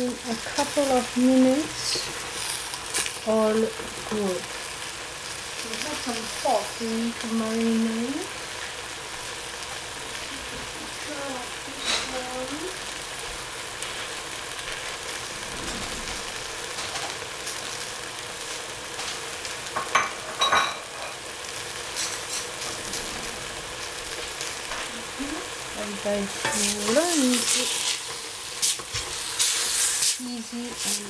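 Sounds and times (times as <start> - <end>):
greens sizzling in a pot: 0.0 - 31.0.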